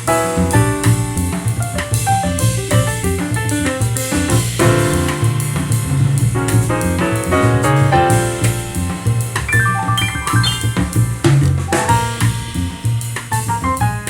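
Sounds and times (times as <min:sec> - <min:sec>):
piano and drum music: 0:00.0 - 0:14.0.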